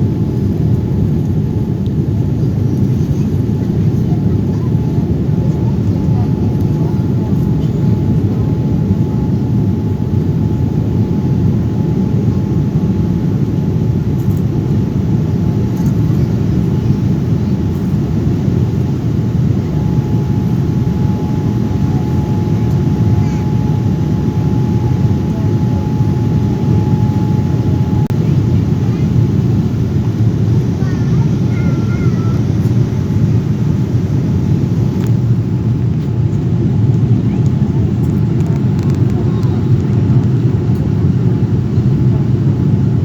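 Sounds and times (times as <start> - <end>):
faint steady whine: 0.0 - 43.0
plane engine and airflow rumble: 0.0 - 43.0.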